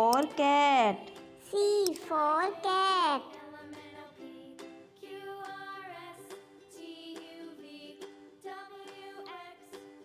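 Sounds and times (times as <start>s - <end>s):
soft children's background music: 0.0s - 10.0s.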